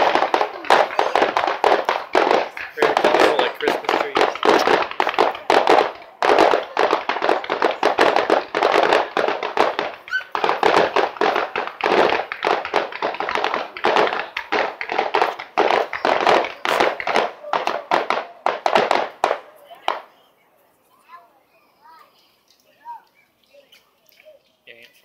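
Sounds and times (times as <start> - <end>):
fireworks bangs and crackles: 0.0 - 20.3.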